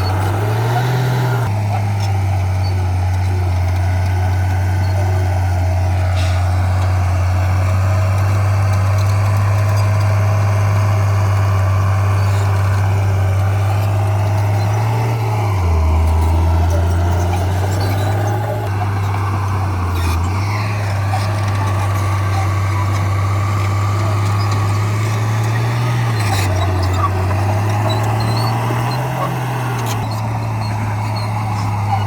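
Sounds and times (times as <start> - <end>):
diesel engine low drone: 0.0 - 32.0.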